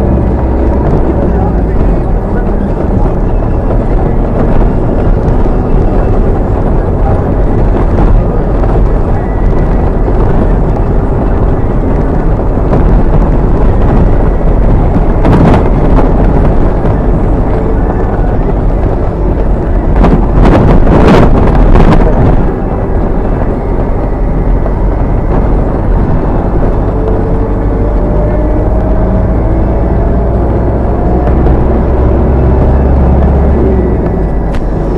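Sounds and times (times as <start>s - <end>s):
car driving over potholed road: 0.0s - 34.9s.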